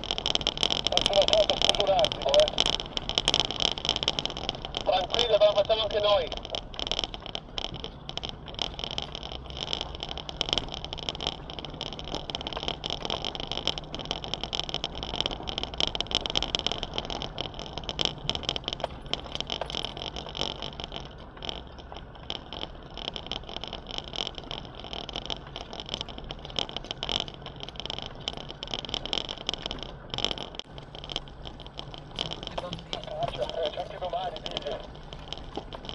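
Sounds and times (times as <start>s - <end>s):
stones crackling under tyres: 0.0s - 35.9s
vehicle engine running: 0.0s - 35.9s.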